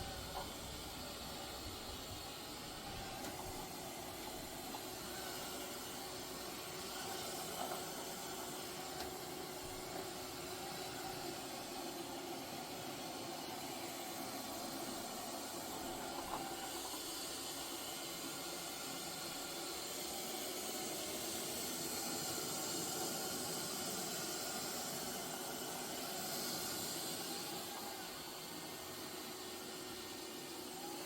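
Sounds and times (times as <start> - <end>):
robot vacuum cleaner running: 0.0 - 31.0.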